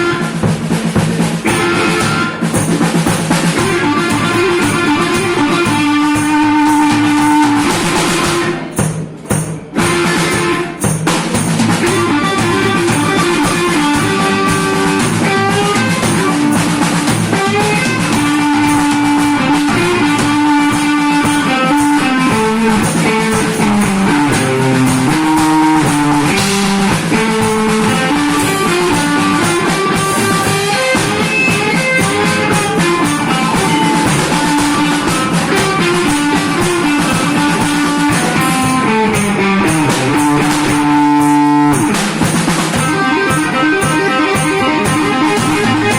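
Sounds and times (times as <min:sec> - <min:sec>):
rock band playing: 0:00.0 - 0:45.9.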